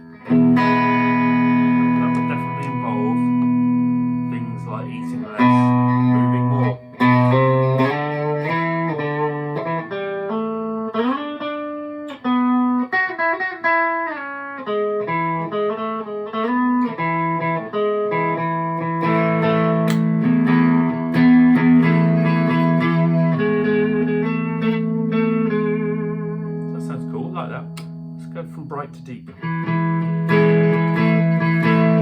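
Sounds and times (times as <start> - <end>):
electric guitar with effects: 0.0 - 32.0.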